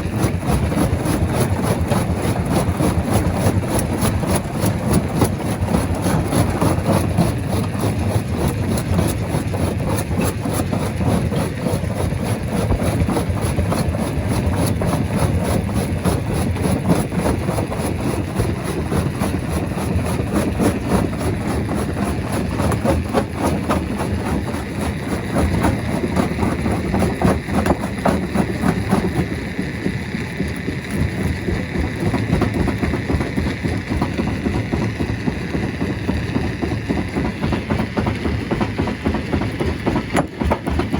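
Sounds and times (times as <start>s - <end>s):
rock crusher machine drone: 0.0s - 40.9s.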